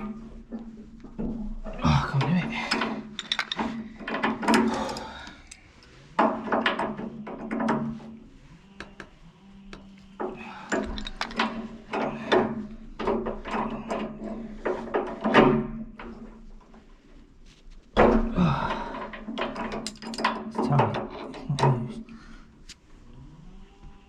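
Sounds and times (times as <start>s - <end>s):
hand tools and metal fittings knocking: 0.0s - 8.2s, 8.8s - 16.9s, 17.8s - 22.2s.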